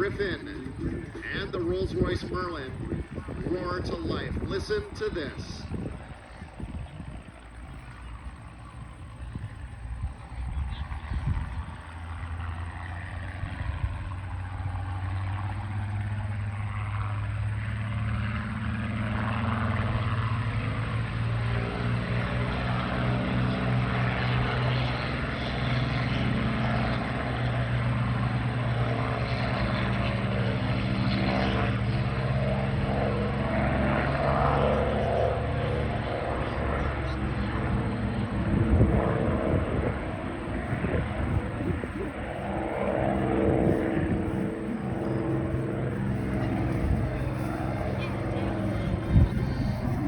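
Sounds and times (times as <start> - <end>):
propeller aircraft engines humming: 0.0 - 50.0.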